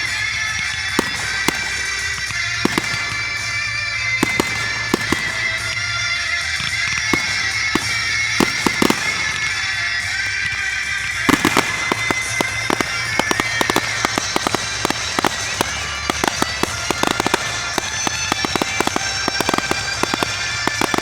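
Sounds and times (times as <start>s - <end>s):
fireworks cracking and popping: 0.0s - 21.0s
fireworks hiss and whine: 0.0s - 21.0s.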